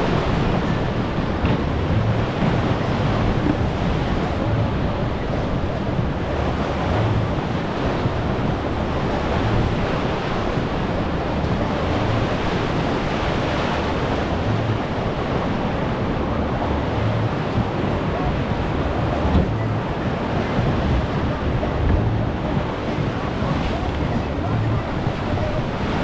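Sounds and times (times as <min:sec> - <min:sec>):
whitewater rapids rushing: 0:00.0 - 0:26.0.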